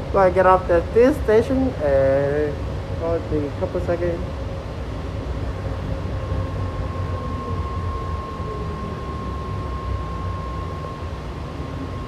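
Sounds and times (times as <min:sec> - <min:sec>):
steady high-pitched hum: 0:00.0 - 0:12.0
train low rumble: 0:00.0 - 0:12.0.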